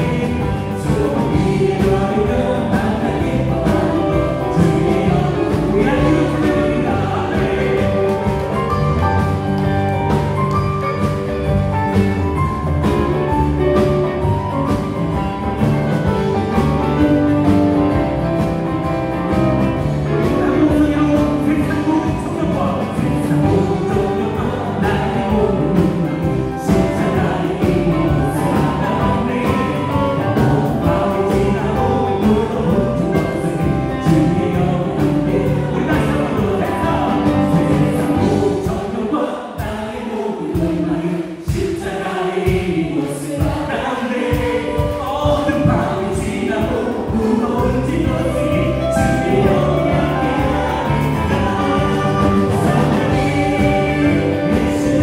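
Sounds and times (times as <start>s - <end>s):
group of voices singing: 0.0s - 10.2s, 15.1s - 55.0s
electric guitar: 0.0s - 38.6s, 47.1s - 55.0s
bass guitar: 0.0s - 38.9s, 44.3s - 55.0s
drums: 0.0s - 55.0s
keyboards: 0.0s - 55.0s.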